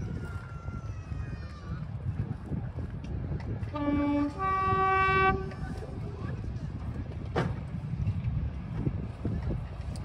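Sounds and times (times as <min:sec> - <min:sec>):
train rumbling: 0:00.0 - 0:10.0
wind buffeting microphone: 0:00.0 - 0:10.0.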